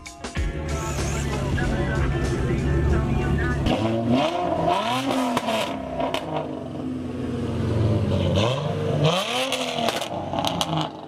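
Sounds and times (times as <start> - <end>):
car engine revving: 0.8 - 11.0.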